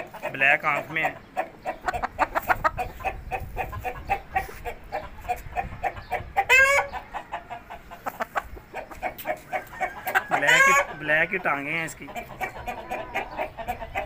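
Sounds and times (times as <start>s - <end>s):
chickens clucking: 0.0s - 14.0s
chicken squawk: 1.0s - 11.5s, 12.1s - 14.0s.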